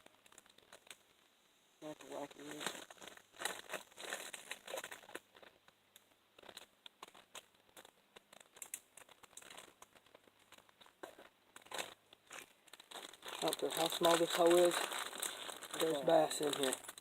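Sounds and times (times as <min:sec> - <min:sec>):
rustling and crackling: 0:00.0 - 0:17.0.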